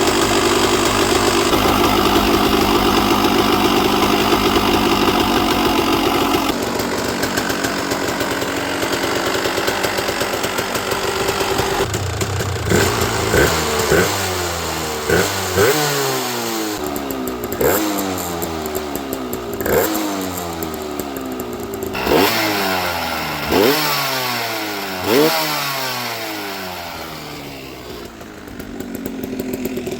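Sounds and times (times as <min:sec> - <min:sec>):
two-stroke engine revving: 0:00.0 - 0:29.9.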